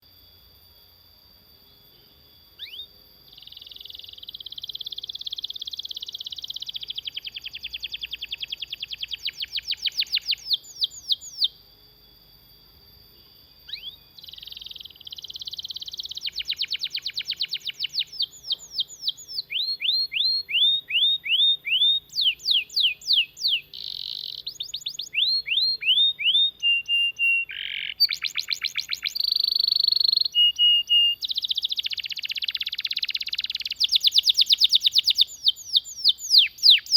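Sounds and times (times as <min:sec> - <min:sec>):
canary singing trills: 0:01.7 - 0:11.6, 0:13.2 - 0:36.9.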